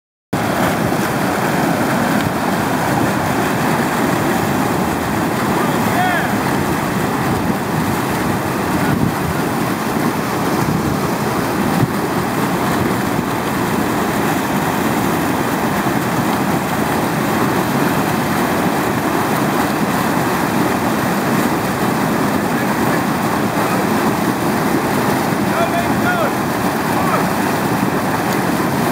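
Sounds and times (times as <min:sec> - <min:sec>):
water pouring over a weir: 0:00.4 - 0:28.9.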